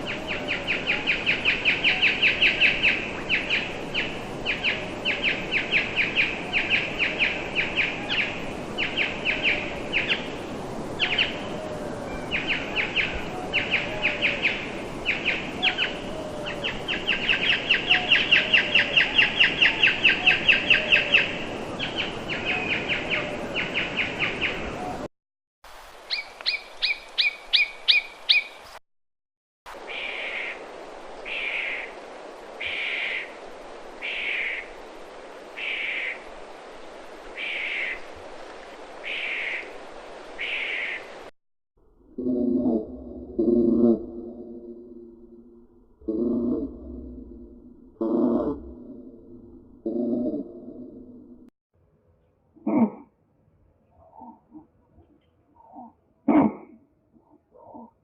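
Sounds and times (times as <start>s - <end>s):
outdoor background noise: 0.0s - 28.8s, 29.7s - 58.0s.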